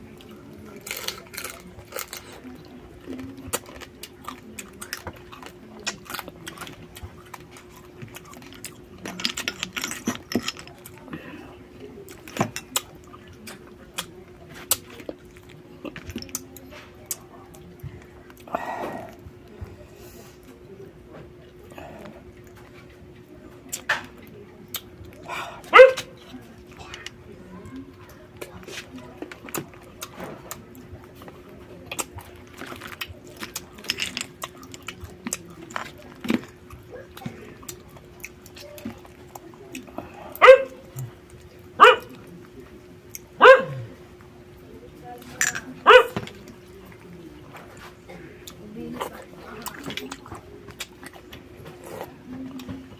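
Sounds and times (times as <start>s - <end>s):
shells cracking while chewed: 0.1s - 19.8s, 21.2s - 25.3s, 25.9s - 43.4s, 45.2s - 52.9s.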